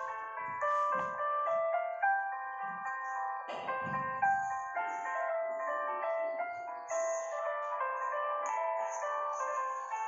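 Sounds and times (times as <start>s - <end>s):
light background melody: 0.0s - 10.0s.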